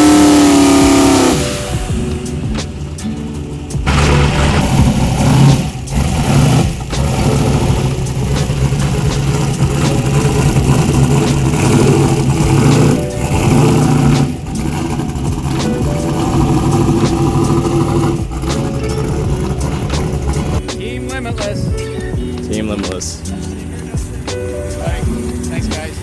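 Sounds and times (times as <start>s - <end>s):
drag car engine running loud: 0.0s - 26.0s.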